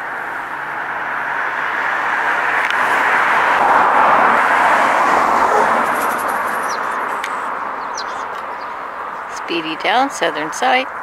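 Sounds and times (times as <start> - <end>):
passing vehicle rushing: 0.0 - 11.0.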